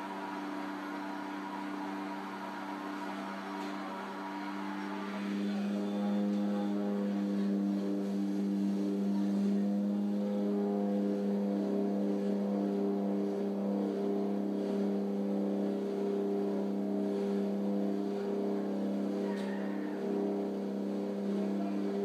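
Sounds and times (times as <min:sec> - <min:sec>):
propeller engine droning: 0:00.0 - 0:22.0.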